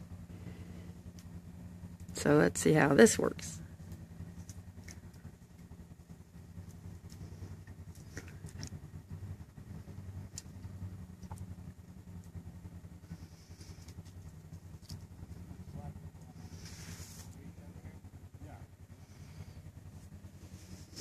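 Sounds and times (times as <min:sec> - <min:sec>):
utility vehicle engine idling: 0:00.0 - 0:21.0.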